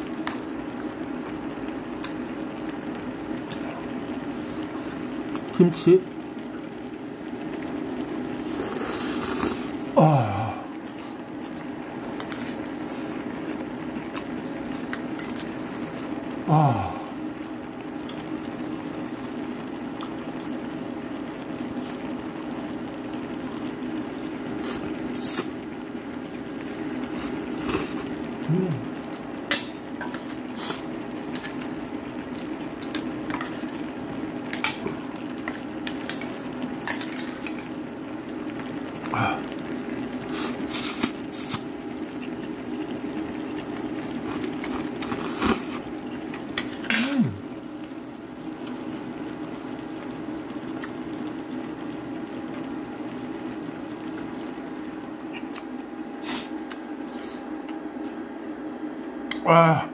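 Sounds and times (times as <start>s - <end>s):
pot of noodles boiling: 0.0s - 59.3s.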